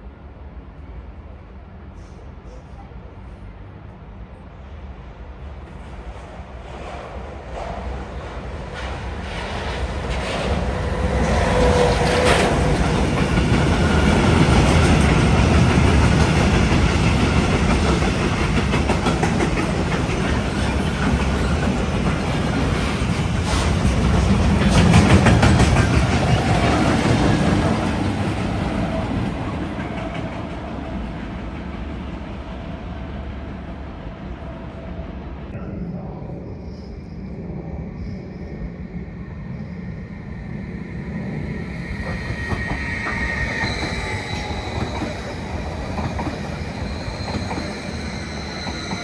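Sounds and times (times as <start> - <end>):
train passing on tracks: 0.0 - 49.0.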